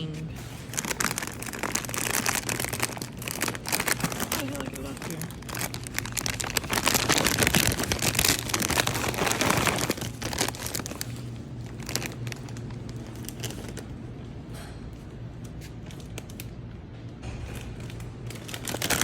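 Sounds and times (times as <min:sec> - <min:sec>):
low steady hum: 0:00.0 - 0:19.0
plastic packaging crinkling: 0:00.3 - 0:14.0, 0:15.4 - 0:16.6, 0:17.5 - 0:19.0.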